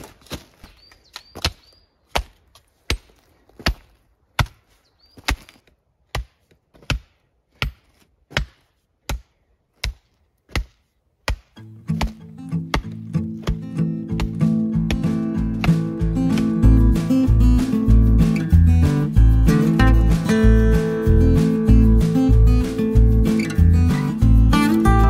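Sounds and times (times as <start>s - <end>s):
gravel crunching underfoot: 0.0s - 25.0s.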